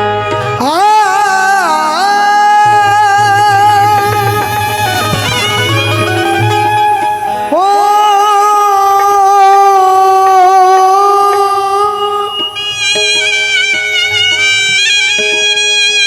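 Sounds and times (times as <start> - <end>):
light percussion: 0.0 - 16.0
stage music melody: 0.0 - 16.0.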